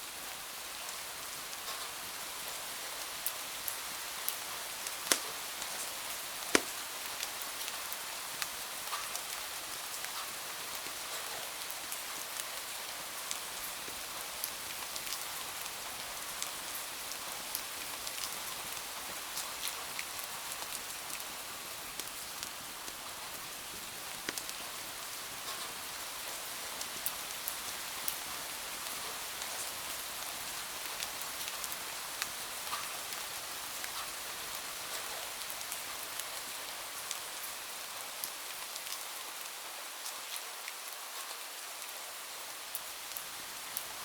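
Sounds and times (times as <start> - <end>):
steady rain hiss: 0.0 - 44.0
sharp rain ticks: 0.8 - 37.4.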